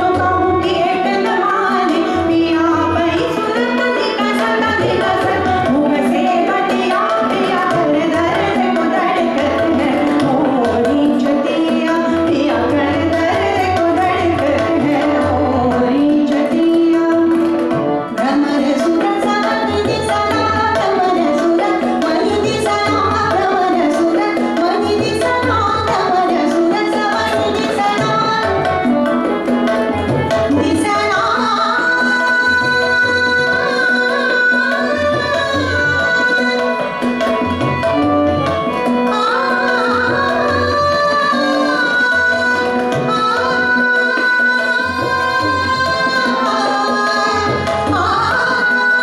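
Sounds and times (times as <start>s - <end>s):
woman singing classical style: 0.0s - 28.9s, 30.5s - 36.9s, 39.0s - 49.0s
tabla playing rhythm: 0.0s - 49.0s.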